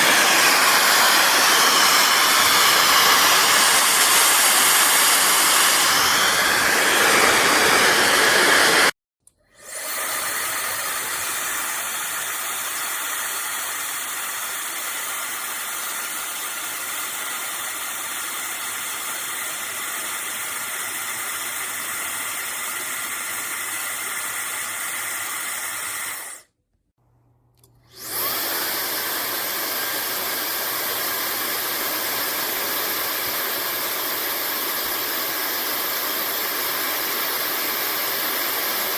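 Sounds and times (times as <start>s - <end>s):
hair dryer blowing: 0.0s - 26.5s, 27.8s - 38.9s.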